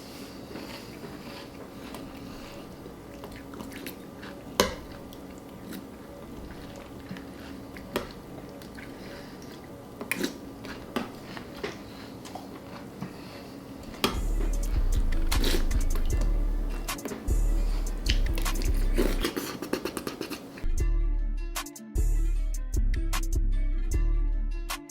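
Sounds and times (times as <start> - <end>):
person chewing crunchy cereal: 0.0 - 20.6.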